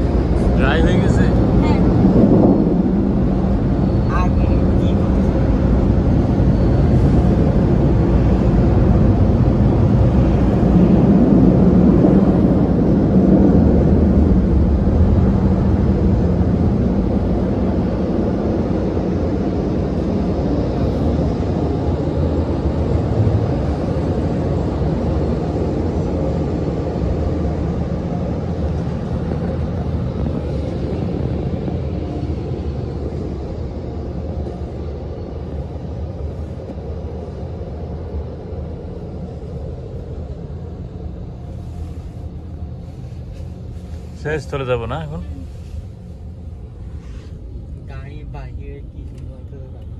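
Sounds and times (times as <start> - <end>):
car wash machinery rumble: 0.0 - 49.9.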